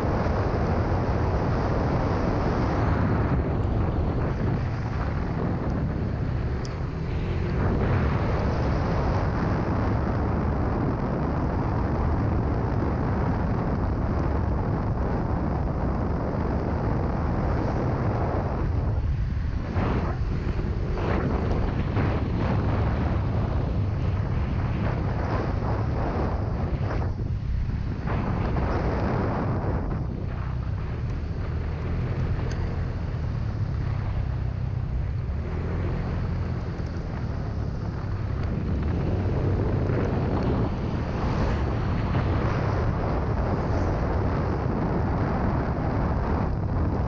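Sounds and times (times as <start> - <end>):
vehicle running: 0.0 - 47.0
wind buffeting microphone: 0.0 - 47.0.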